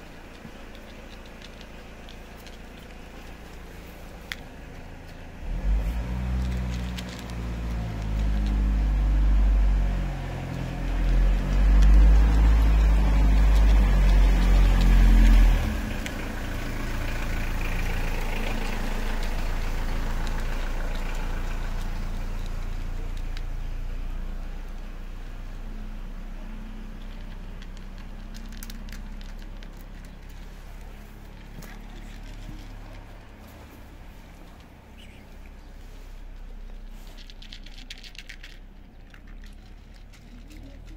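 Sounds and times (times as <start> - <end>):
motor vehicle engine running: 0.0 - 40.9.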